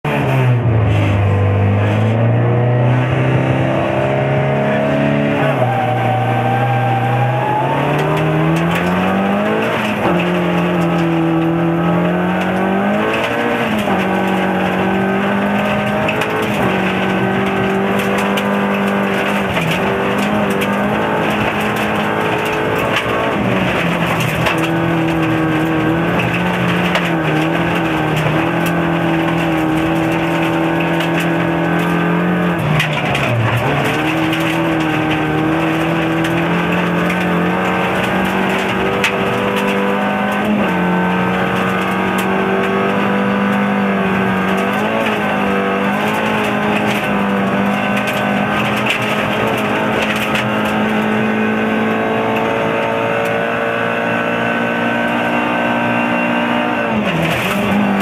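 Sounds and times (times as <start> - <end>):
rally car engine revving: 0.0 - 58.0
stones clicking against car: 5.6 - 53.7, 54.8 - 58.0.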